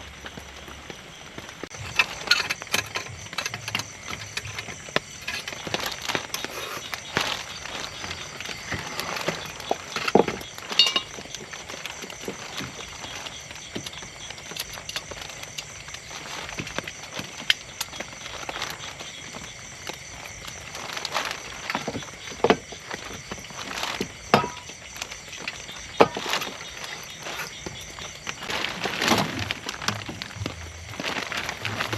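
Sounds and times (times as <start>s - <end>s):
rain hiss: 0.0s - 31.9s.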